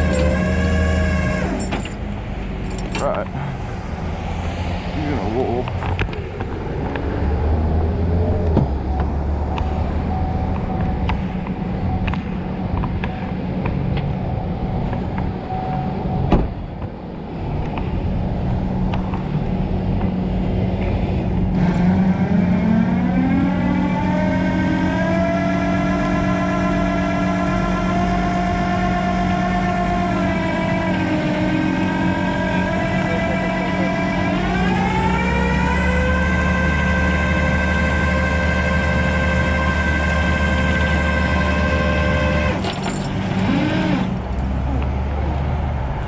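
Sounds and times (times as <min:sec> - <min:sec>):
road noise: 0:00.0 - 0:46.0
vehicle engine accelerating: 0:00.0 - 0:46.0.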